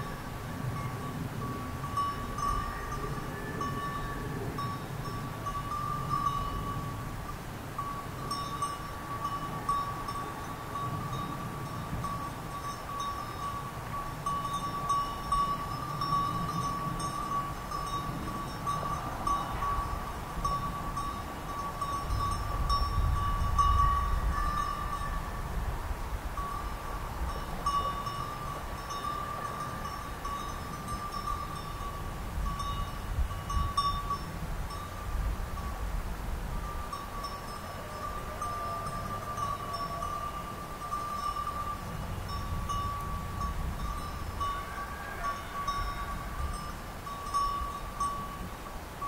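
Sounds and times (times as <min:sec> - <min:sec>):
sheep bells clinking: 0:00.0 - 0:25.4, 0:26.4 - 0:35.9, 0:36.6 - 0:49.0.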